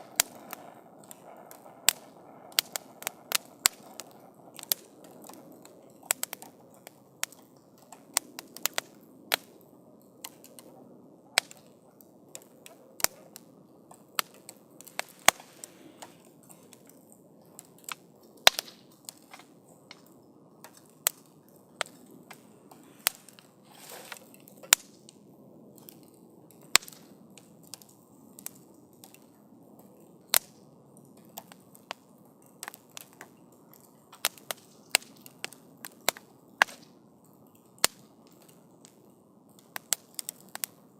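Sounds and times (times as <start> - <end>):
burning wood popping and crackling: 0.0 - 40.9
fire flaring: 0.0 - 40.9
hiss of flames: 0.0 - 40.9.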